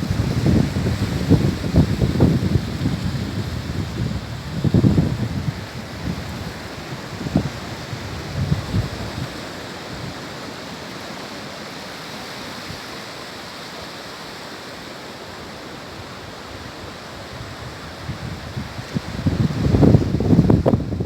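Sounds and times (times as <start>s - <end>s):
sea surf on a beach: 0.0s - 21.0s.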